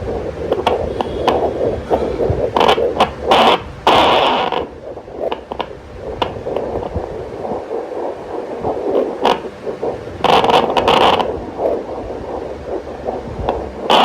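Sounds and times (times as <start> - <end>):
doppler whooshing static: 0.0 - 14.0
probe scraping: 0.0 - 14.0.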